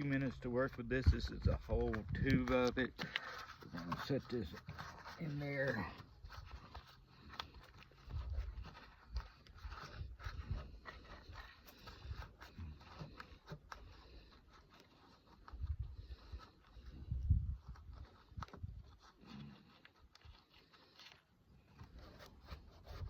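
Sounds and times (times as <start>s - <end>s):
gloved hands handling putty: 0.0s - 23.0s.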